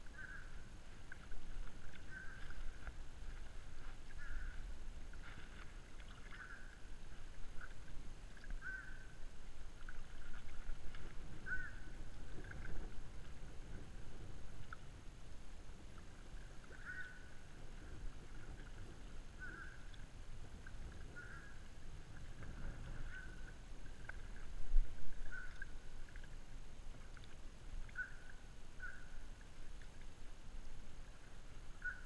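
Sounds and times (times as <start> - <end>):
kayak paddle strokes in water: 0.0 - 32.0
low rumble of water and wind: 0.0 - 32.0.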